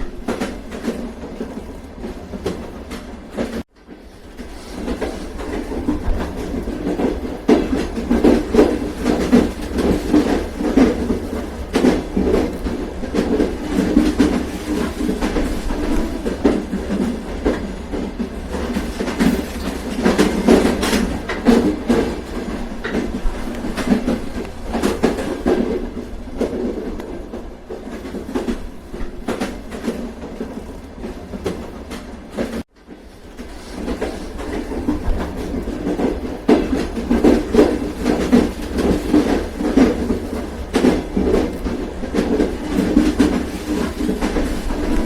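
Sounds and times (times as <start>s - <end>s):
train rumbling along track: 0.0s - 45.0s
wheels clickety-clack over rail joints: 0.0s - 45.0s.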